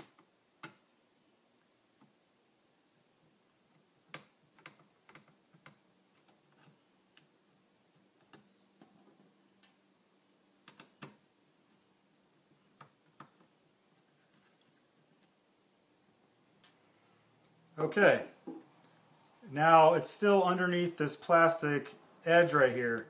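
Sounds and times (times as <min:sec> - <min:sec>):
faint high-pitched whine: 0:00.0 - 0:23.0.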